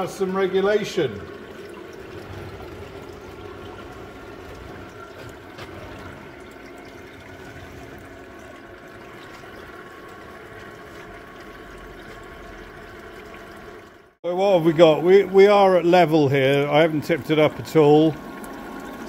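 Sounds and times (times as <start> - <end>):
faint pump hum: 0.0 - 19.0
water spilling into reservoir: 0.0 - 19.0.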